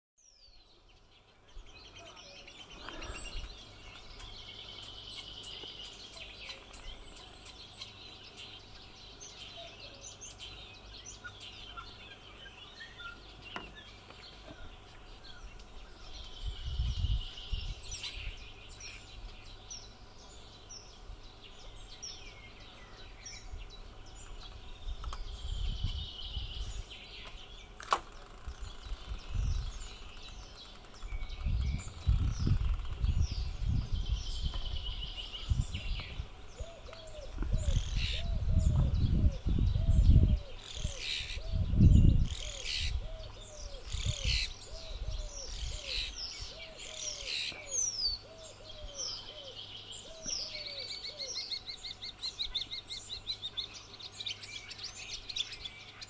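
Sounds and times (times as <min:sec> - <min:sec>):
small birds chirping: 0:00.2 - 0:56.0.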